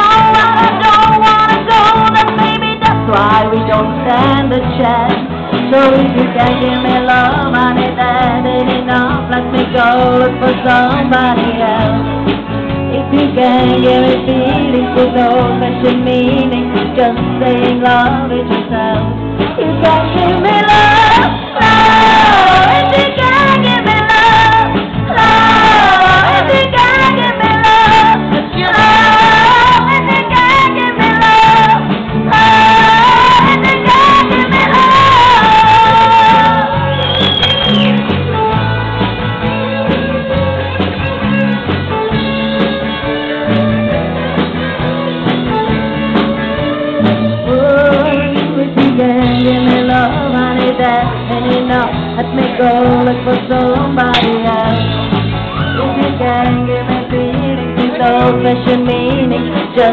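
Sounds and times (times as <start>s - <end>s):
person singing: 0.0s - 12.2s, 12.8s - 38.0s, 46.6s - 59.9s
live band playing: 0.0s - 59.9s.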